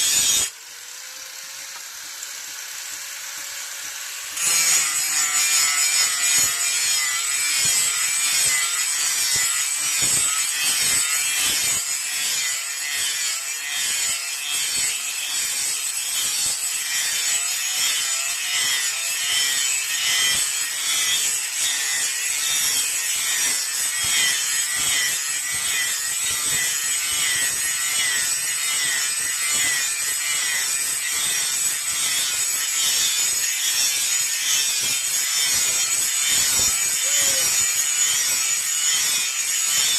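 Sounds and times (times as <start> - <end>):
steel blade scraping on abrasive: 0.0 - 0.6, 2.3 - 39.9.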